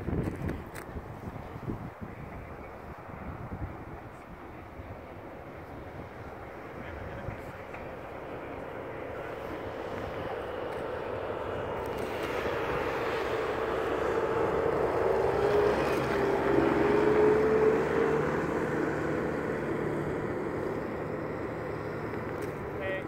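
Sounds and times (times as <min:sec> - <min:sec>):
passing engine drone: 0:03.0 - 0:23.0.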